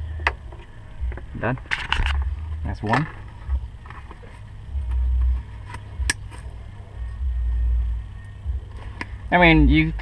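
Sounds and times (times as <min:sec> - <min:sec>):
deep rumble: 0:00.0 - 0:10.0.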